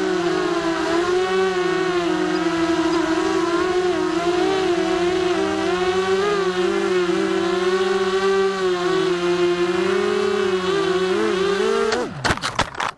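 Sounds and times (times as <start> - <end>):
quadcopter motors whining: 0.0 - 12.9.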